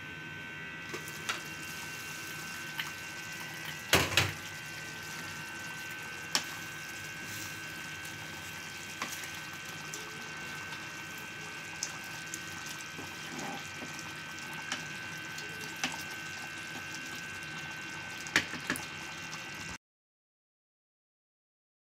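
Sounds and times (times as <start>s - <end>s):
curry bubbling in a pan: 0.9s - 19.8s.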